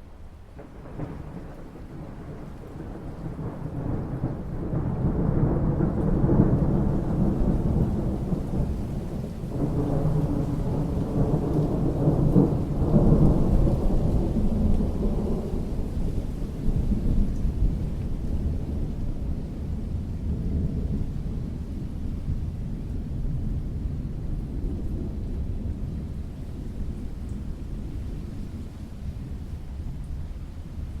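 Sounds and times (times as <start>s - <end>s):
light rain patter: 0.0s - 31.0s
rolling thunder rumble: 0.2s - 31.0s.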